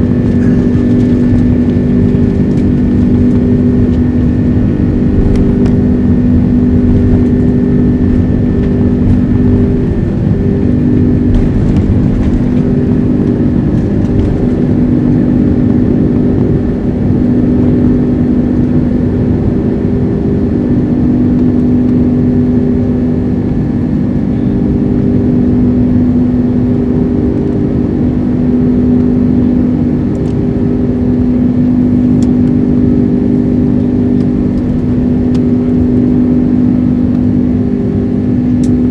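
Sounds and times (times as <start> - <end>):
jet engines roaring in cabin: 0.0 - 38.9.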